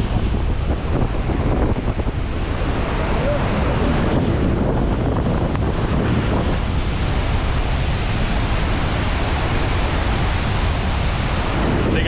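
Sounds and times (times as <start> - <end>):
waterfall roaring: 0.0 - 12.0
wind buffeting microphone: 0.0 - 12.0.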